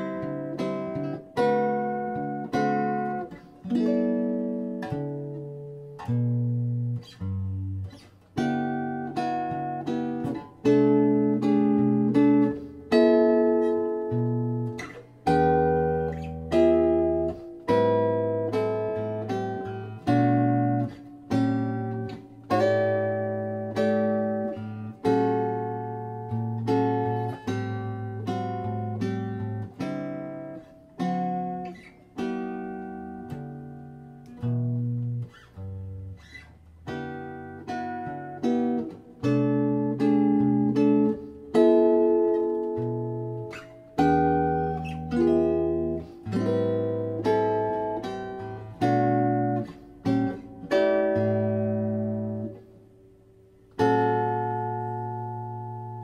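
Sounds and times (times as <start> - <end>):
guitar playing plucked chords: 0.0 - 56.0.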